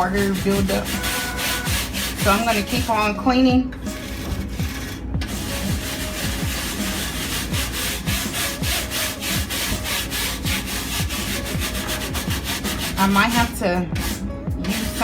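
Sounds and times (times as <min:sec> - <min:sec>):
rhythmic scrubbing: 0:00.0 - 0:15.0.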